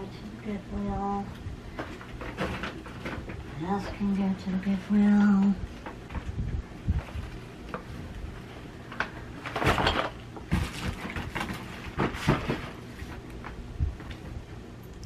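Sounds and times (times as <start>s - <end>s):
household items rustling and knocking: 1.7s - 14.4s.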